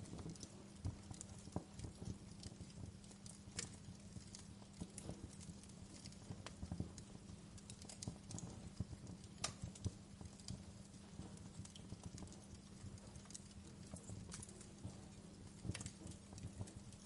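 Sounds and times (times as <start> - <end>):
steady low hum: 0.0 - 17.0
wood fire crackling and popping: 0.0 - 17.0.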